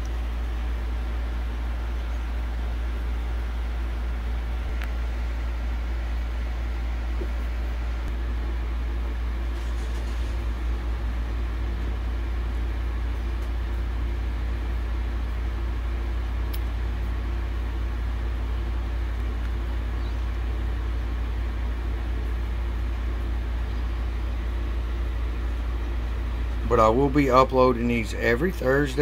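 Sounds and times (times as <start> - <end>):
machinery hum: 0.0 - 29.0.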